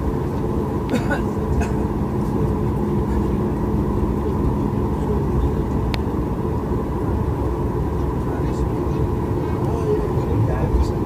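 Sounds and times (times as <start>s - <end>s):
airliner cabin rumble and hum: 0.0s - 11.0s.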